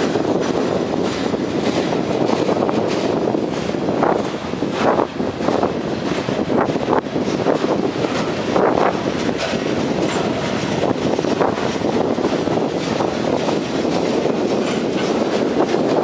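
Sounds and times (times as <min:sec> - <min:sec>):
train car knocks: 0:00.0 - 0:16.0
train wheels rumbling on rails: 0:00.0 - 0:16.0.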